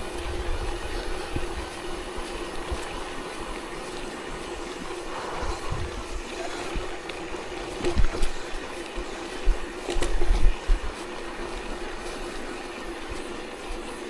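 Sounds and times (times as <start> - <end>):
rolling ride hum on gravel: 0.0 - 14.0.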